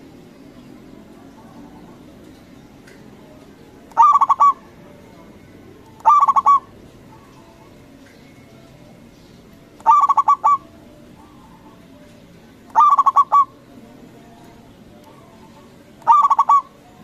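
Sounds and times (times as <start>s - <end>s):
dove cooing song: 0.0s - 17.0s.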